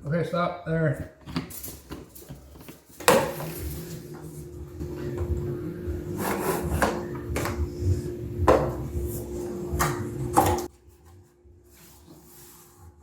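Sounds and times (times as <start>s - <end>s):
steady low hum: 0.9s - 12.6s.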